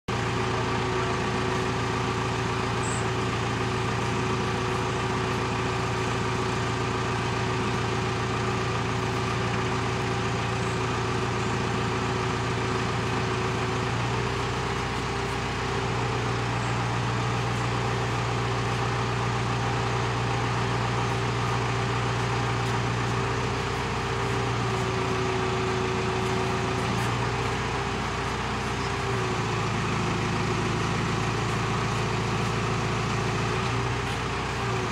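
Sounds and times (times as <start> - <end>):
heavy engine running: 0.1 - 34.9.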